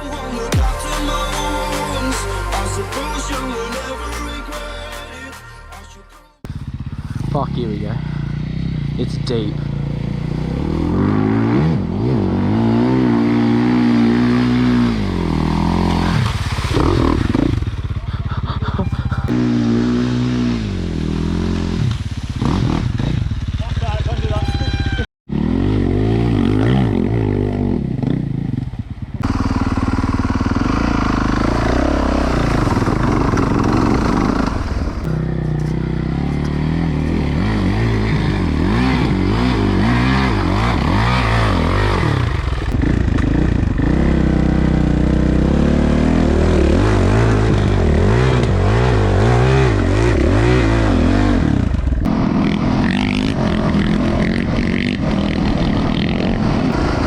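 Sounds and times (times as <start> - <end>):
dirt bike engine revving: 6.5 - 18.0, 19.0 - 57.0.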